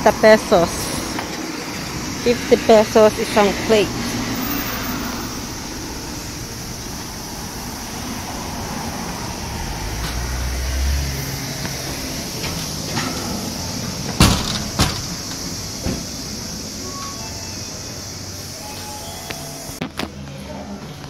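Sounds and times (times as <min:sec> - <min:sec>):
low vehicle rumble: 0:00.0 - 0:21.0
outdoor street noise: 0:00.0 - 0:21.0.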